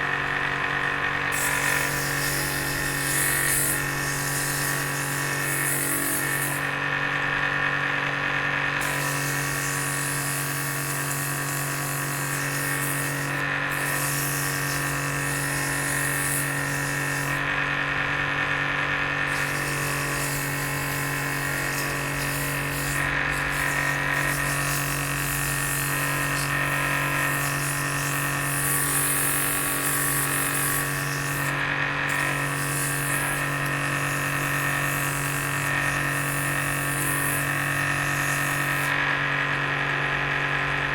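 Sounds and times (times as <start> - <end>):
drill press motor hum: 0.0 - 40.9
tool cutting spinning wood: 0.0 - 40.9.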